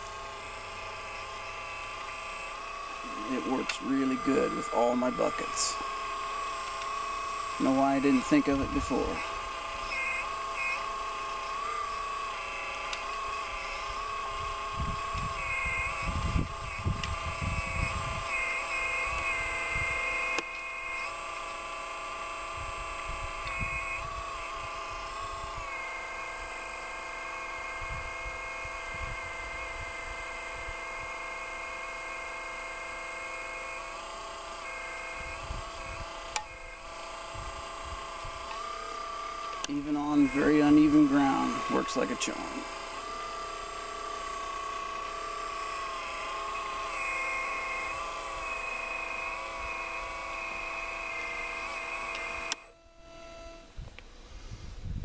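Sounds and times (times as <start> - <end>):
hydraulic pump whine: 0.0 - 55.0.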